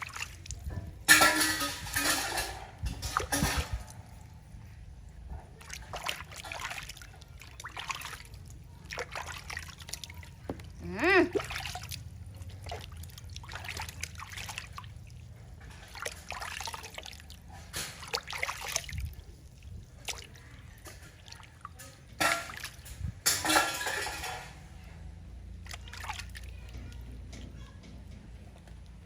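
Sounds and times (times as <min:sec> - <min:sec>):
water splashing and trickling: 0:00.0 - 0:29.0.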